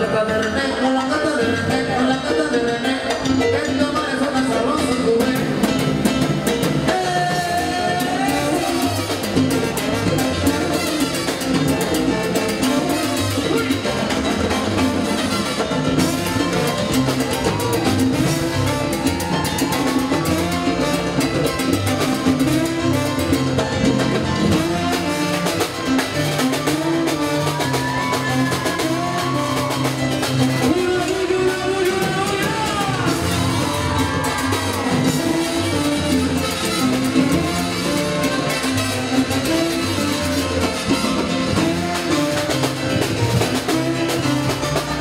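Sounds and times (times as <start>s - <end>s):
congas and timbales: 0.0s - 45.0s
low bass line: 0.0s - 45.0s
salsa band playing: 0.0s - 45.0s
trombones: 1.4s - 45.0s.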